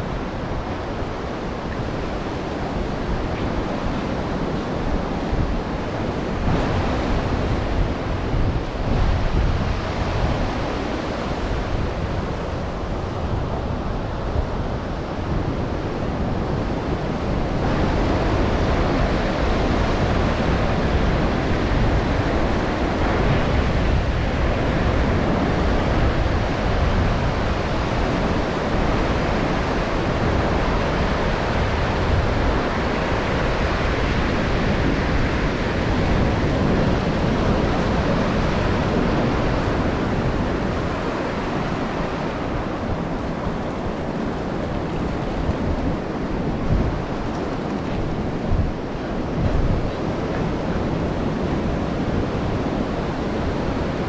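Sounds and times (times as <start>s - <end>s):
ocean surf washing on shore: 0.0s - 54.0s
wind buffeting microphone: 0.0s - 54.0s.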